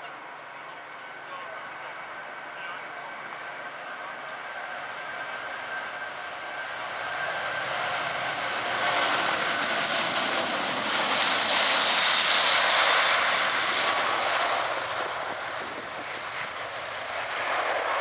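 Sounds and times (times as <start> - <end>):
jet engines at take-off: 0.0 - 18.0.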